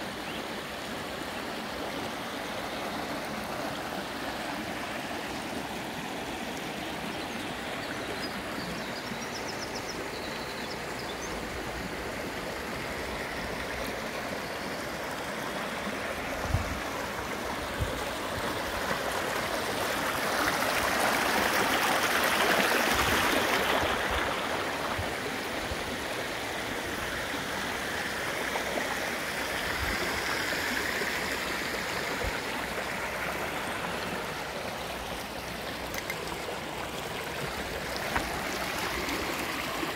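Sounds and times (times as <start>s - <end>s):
creek water running over rocks: 0.0s - 39.9s.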